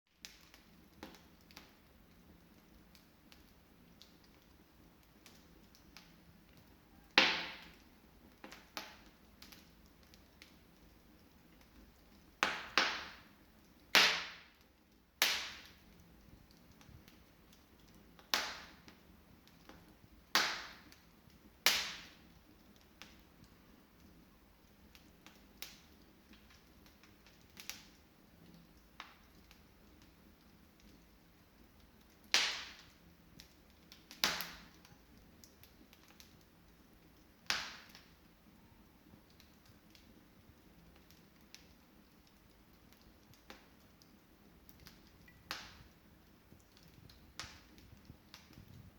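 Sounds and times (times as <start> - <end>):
faint fire crackling: 0.1 - 48.9
wood fire popping: 0.1 - 48.9.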